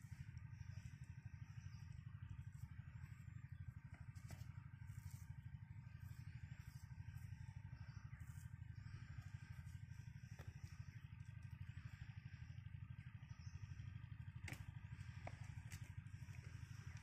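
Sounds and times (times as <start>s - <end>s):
pump engine running steadily: 0.0s - 17.0s.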